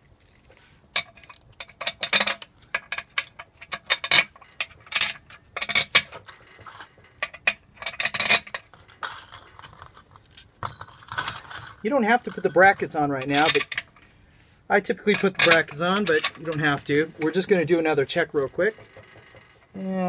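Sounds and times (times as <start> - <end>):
steel bolts clinking: 1.0 - 14.1, 14.9 - 19.7.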